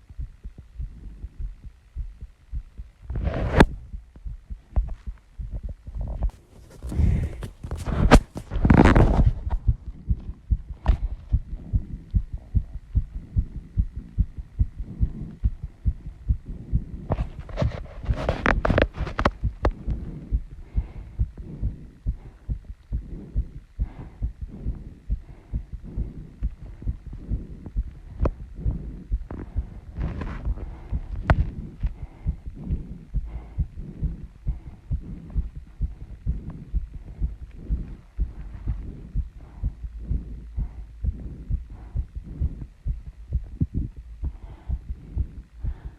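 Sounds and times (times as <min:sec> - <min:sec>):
fast heartbeat thumps: 0:00.0 - 0:45.9.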